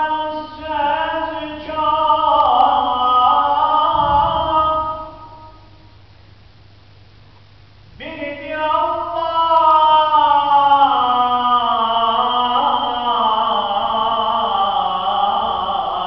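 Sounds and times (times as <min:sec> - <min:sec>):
man chanting religious recitation: 0:00.0 - 0:05.8, 0:07.9 - 0:16.0.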